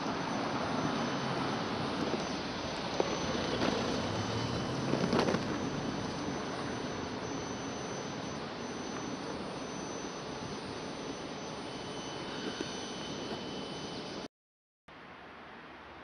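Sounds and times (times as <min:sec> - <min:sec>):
faint high steady tone: 0:00.0 - 0:14.3
outdoor background rush: 0:00.0 - 0:14.3.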